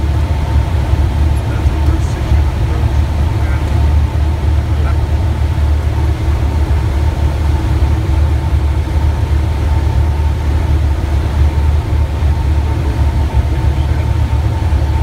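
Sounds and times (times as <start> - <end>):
faint steady whine: 0.0 - 15.0
propeller airplane engine drone: 0.0 - 15.0.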